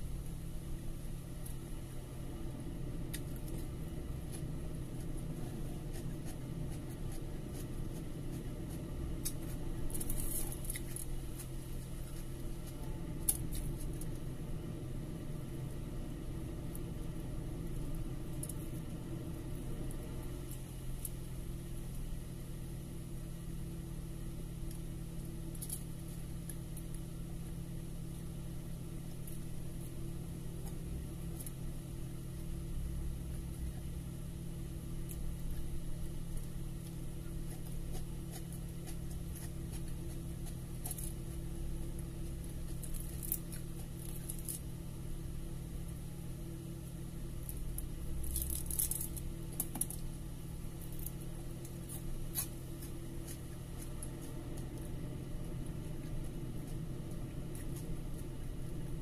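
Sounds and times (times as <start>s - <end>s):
steady low hum: 0.0s - 59.0s
eating and chewing with hands: 1.3s - 22.4s, 23.9s - 59.0s.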